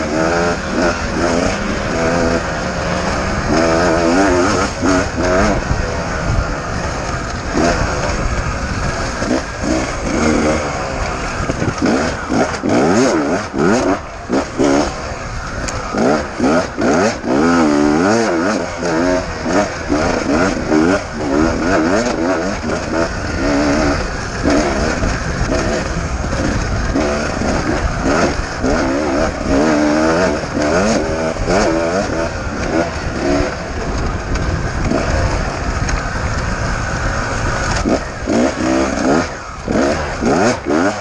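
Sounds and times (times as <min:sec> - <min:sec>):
low rumble of wind: 0:00.0 - 0:41.0
motorcycle engine revving: 0:00.0 - 0:41.0.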